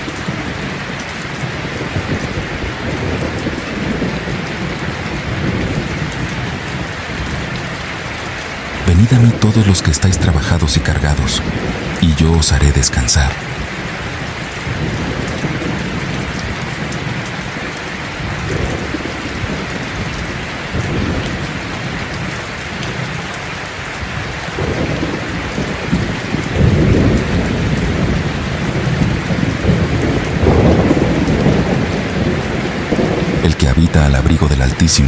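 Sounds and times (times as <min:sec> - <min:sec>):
thunder rumbling: 0:00.0 - 0:07.7, 0:08.8 - 0:23.2, 0:24.2 - 0:33.5
heavy rain falling: 0:00.0 - 0:35.0.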